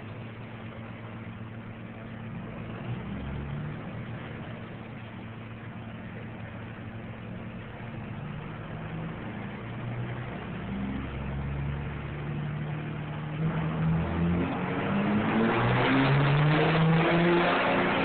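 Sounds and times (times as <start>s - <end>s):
diesel engine revving under load: 1.9s - 18.0s.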